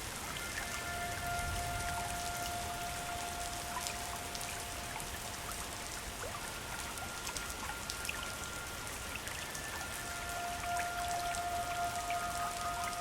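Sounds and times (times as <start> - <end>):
soft background music: 0.0 - 13.0
water running and splashing: 0.0 - 13.0.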